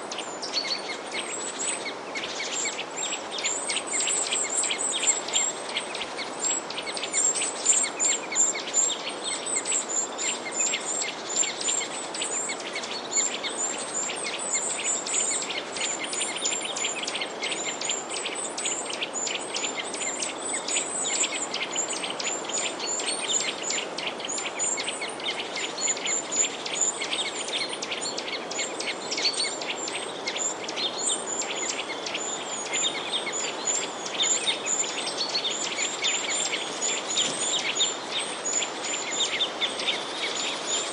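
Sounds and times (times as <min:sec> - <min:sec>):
many birds chirping: 0:00.0 - 0:40.9
steady background hiss: 0:00.0 - 0:40.9.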